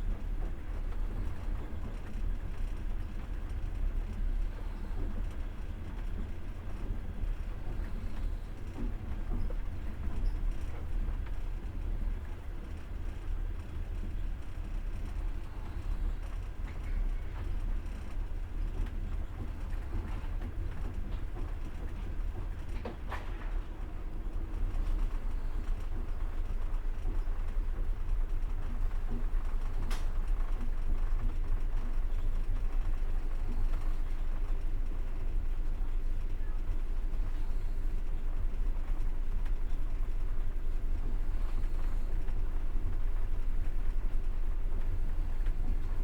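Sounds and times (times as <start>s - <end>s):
train rumbling on rails: 0.0s - 46.0s.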